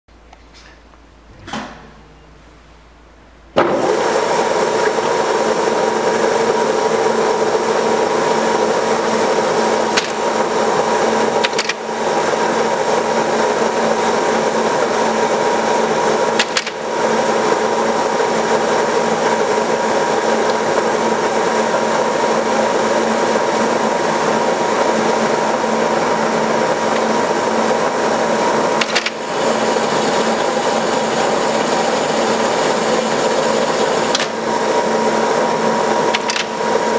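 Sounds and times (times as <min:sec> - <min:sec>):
lathe whirring and clattering: 0:03.6 - 0:36.9.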